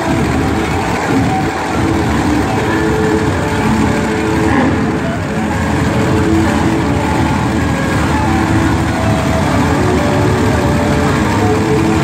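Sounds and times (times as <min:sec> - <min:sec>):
monster truck engines rumbling: 0:00.0 - 0:12.0.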